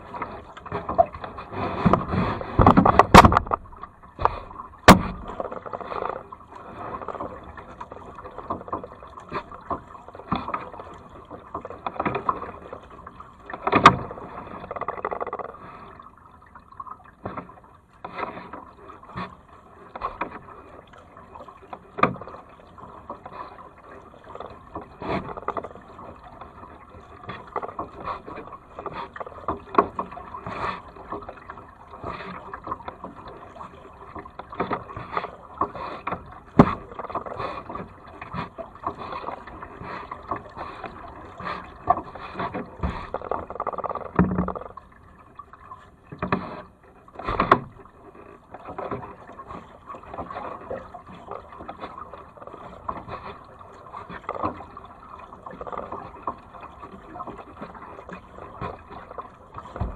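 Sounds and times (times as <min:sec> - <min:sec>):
kayak paddle splashing: 0:00.0 - 0:59.9.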